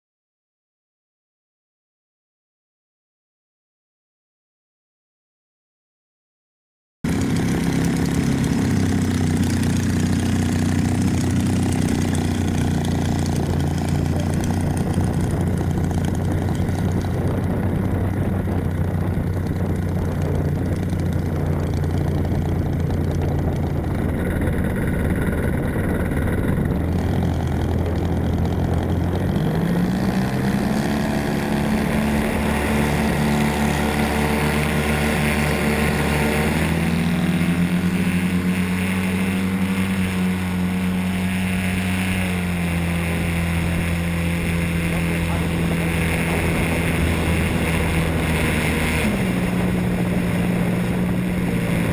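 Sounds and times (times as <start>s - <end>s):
model airplane motor and propeller: 7.1s - 51.9s.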